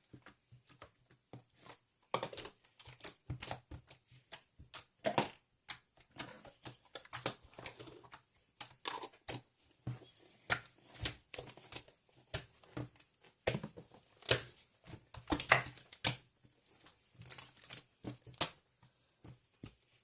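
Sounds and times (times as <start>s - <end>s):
irregular clicks and taps: 0.0s - 20.0s.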